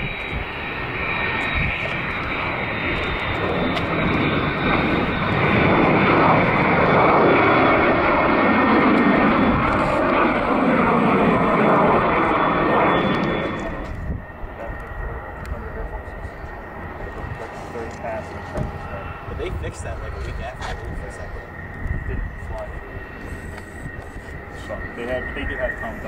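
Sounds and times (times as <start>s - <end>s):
jet engines roaring at takeoff: 0.0s - 26.0s.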